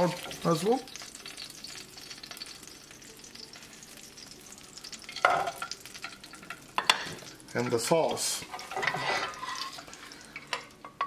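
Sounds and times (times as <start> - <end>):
oil sizzling in frying pan: 0.0 - 11.0.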